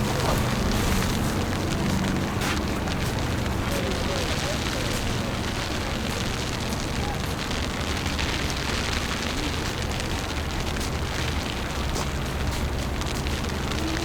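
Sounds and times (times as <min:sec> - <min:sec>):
faint crackling ticks: 0:00.0 - 0:14.0
wind rumbling on microphone: 0:00.0 - 0:14.0.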